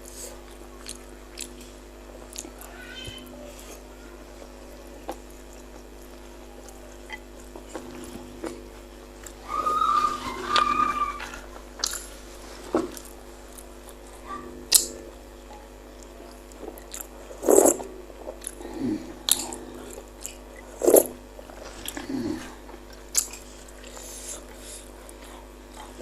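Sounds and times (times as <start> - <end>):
chewing and mouth sounds: 0.1 - 2.8, 4.4 - 9.4, 10.5 - 12.2, 12.8 - 26.0.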